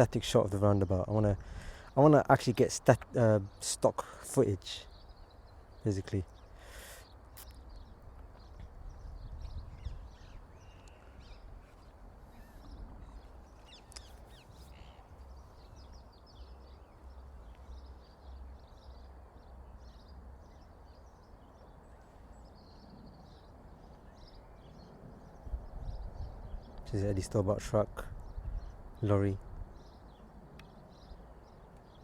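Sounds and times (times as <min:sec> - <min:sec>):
birds chirping and calling: 0:00.0 - 0:32.0.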